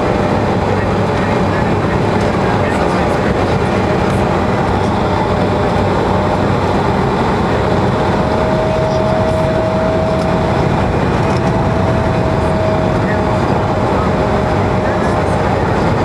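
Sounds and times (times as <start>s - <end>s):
airflow rush in cabin: 0.0s - 16.0s
jet engine rumble: 0.0s - 16.0s
thin steady whine: 0.0s - 16.0s.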